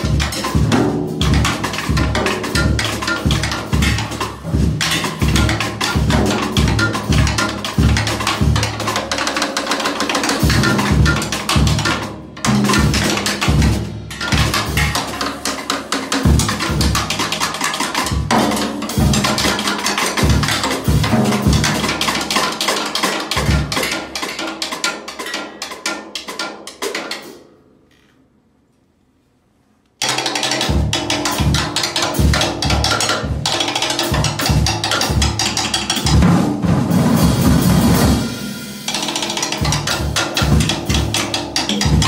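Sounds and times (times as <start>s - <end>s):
drums and percussion playing: 0.0s - 27.4s, 30.0s - 42.0s.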